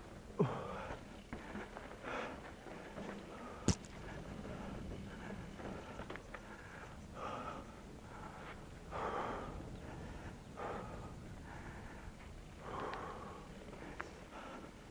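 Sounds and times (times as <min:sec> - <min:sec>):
tyres rumbling on dirt trail: 0:00.0 - 0:14.9
person breathing hard: 0:00.4 - 0:14.9.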